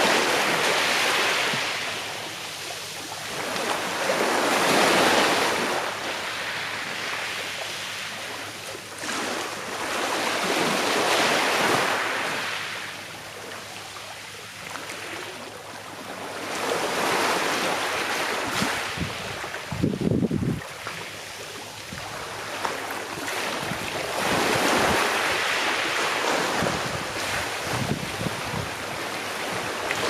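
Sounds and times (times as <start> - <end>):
sea waves breaking on shore: 0.0 - 30.0.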